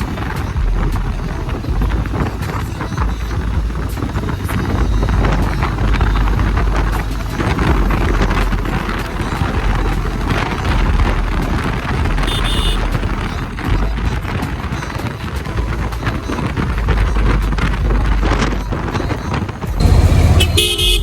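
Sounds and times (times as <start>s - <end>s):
motorcycle engine and road noise: 0.0s - 21.0s
wind buffeting microphone: 0.0s - 21.0s.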